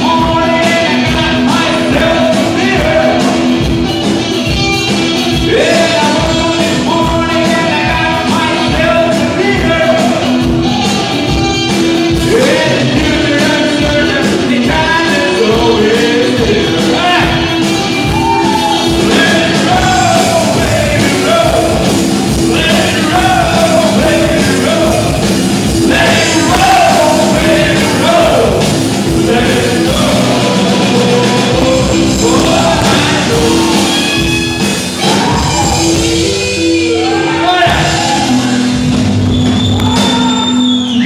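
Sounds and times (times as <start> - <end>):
person singing: 0.0 - 4.1, 4.8 - 38.8
rock band playing: 0.0 - 41.0.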